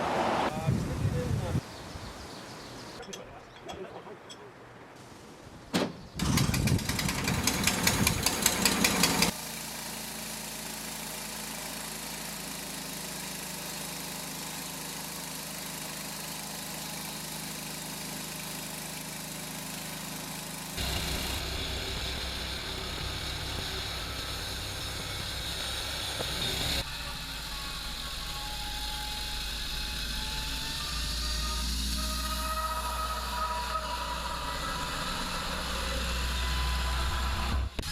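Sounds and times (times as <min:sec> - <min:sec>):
engine running: 0:06.2 - 0:37.9.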